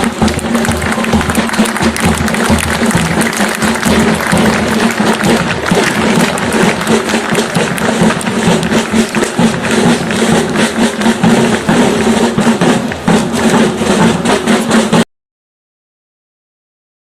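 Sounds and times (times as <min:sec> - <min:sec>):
military snare and bass drums: 0:00.0 - 0:15.1.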